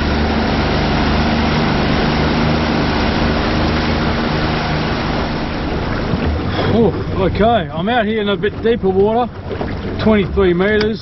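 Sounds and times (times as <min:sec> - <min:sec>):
outboard motor humming: 0:00.0 - 0:11.0
rush of wind and water: 0:00.0 - 0:11.0.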